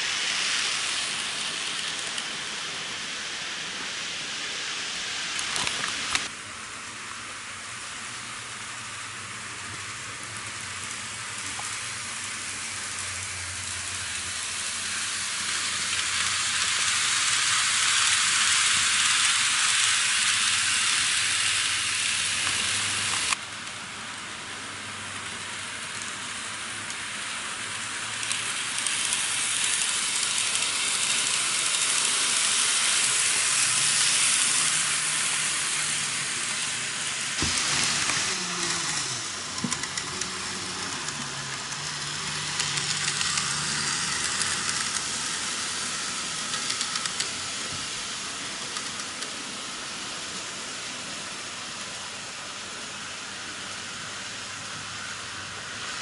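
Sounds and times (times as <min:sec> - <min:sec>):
model train wheels rolling on track: 0:00.0 - 0:56.0.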